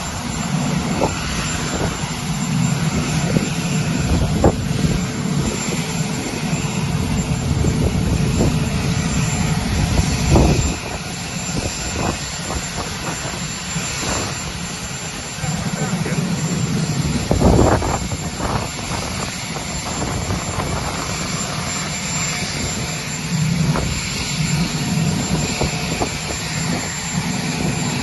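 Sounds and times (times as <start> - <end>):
aircraft engine noise: 0.0 - 28.0.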